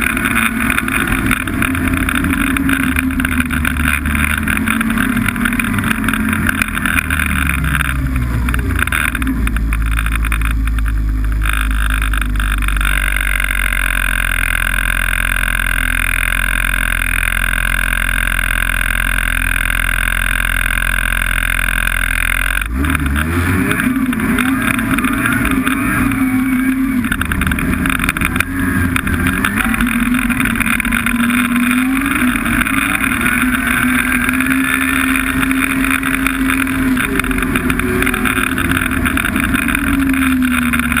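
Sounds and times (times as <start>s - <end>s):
steady hum: 0.0s - 22.8s, 23.6s - 41.0s
snowmobile engine running: 0.0s - 41.0s.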